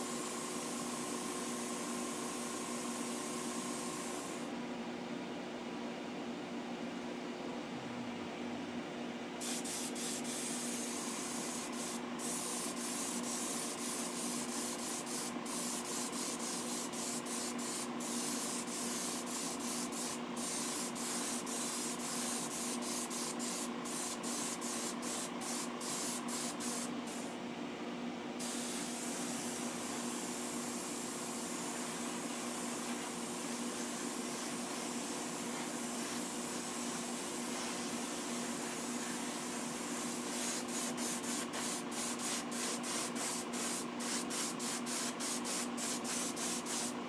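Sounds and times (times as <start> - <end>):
airbrush spraying hiss: 0.0 - 4.5, 9.4 - 27.4, 28.4 - 47.0
steady low hum: 0.0 - 47.0.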